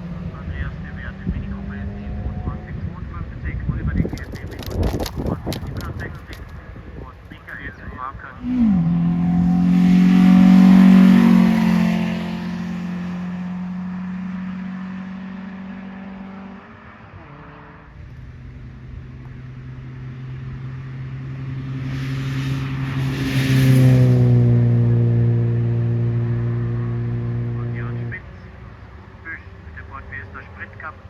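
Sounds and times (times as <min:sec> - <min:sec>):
race car passing at high revs: 0:00.0 - 0:03.0, 0:07.6 - 0:30.4
race car approaching: 0:00.0 - 0:31.0.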